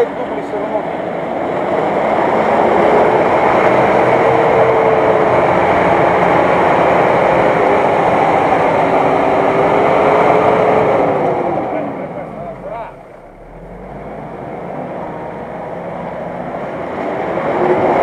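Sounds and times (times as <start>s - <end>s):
engine running hard under load: 0.3s - 18.0s
tyres churning mud: 1.4s - 18.0s.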